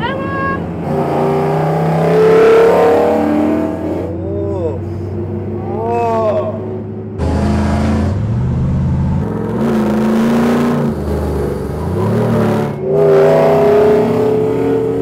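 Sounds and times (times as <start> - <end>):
truck engine accelerating: 0.0 - 15.0.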